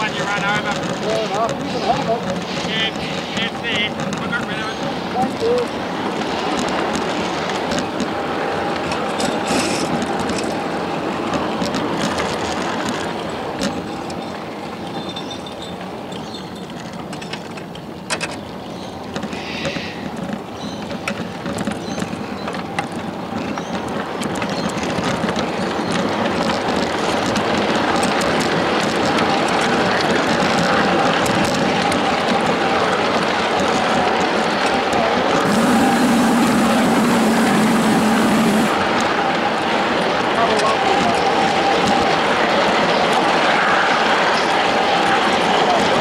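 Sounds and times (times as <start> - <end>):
steel wheels rumbling on rail: 0.0 - 16.1, 19.6 - 46.0
wheels clicking over rail joints: 0.0 - 38.7.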